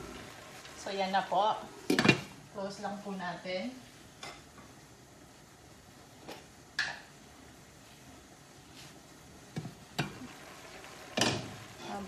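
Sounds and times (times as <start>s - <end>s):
faint hiss of cooking pot: 0.0s - 12.0s.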